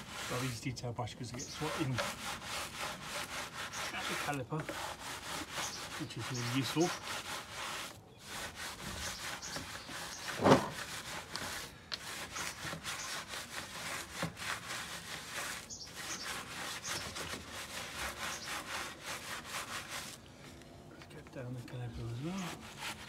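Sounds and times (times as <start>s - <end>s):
brush scrubbing a wheel: 0.0s - 20.5s, 21.4s - 23.0s.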